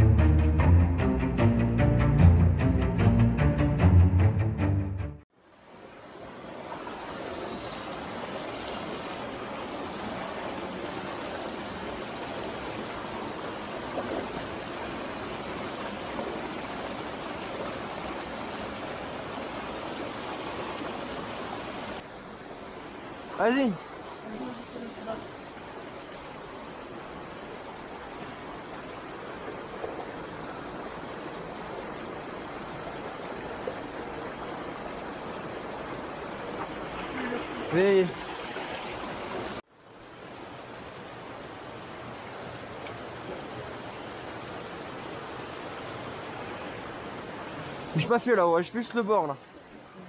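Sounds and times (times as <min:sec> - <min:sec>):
stream water running: 0:05.3 - 0:50.0.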